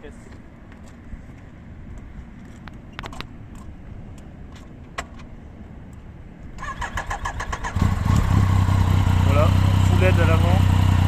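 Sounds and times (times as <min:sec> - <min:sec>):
wind rumbling on microphone: 0:00.0 - 0:10.2.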